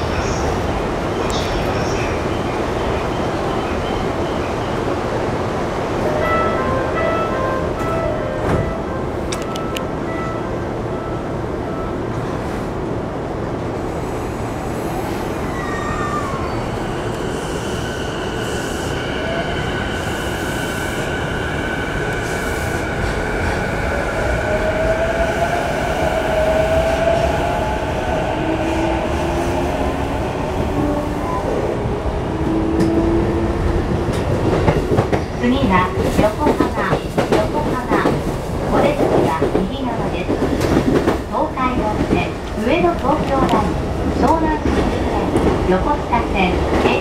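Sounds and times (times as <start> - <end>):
wheels rumbling on rail: 0.0 - 47.0.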